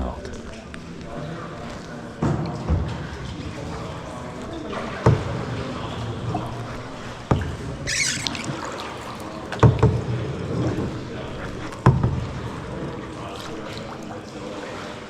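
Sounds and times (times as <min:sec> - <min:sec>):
water splashing off paddle: 0:00.8 - 0:15.0
paddle knocking against kayak: 0:01.0 - 0:15.0.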